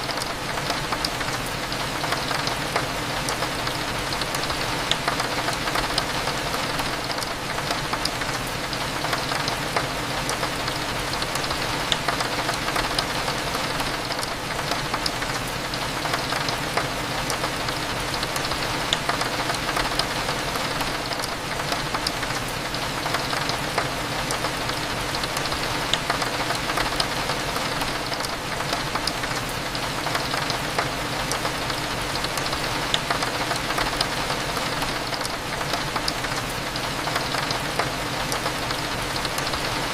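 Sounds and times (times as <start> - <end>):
raindrops ticking on window: 0.0 - 39.9
steady rain: 0.0 - 39.9.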